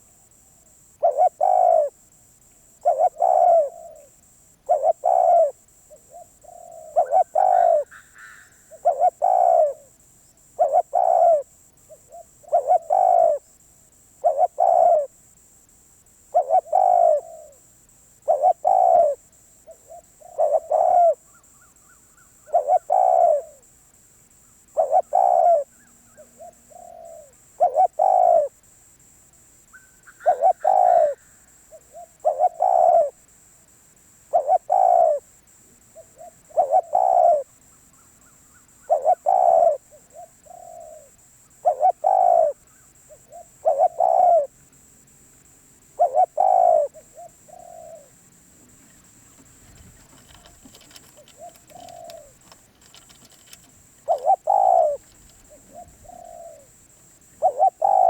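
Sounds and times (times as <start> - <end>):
dove cooing: 0.0 - 2.0, 2.8 - 10.0, 10.6 - 13.5, 14.2 - 15.1, 16.3 - 17.6, 18.2 - 23.7, 24.7 - 28.6, 29.7 - 33.3, 34.3 - 44.6, 45.9 - 58.0.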